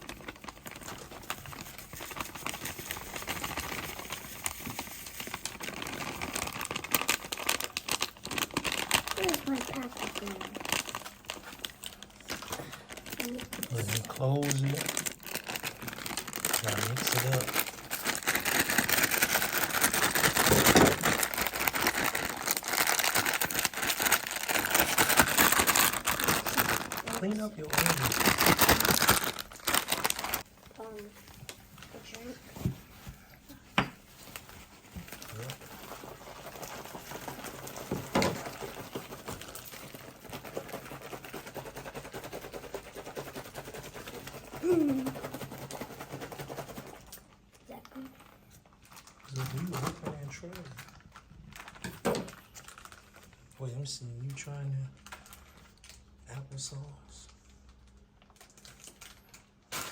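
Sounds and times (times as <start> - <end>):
plastic drink bag crinkling: 0.0 - 33.6, 34.2 - 42.3, 48.6 - 56.0, 57.8 - 59.9.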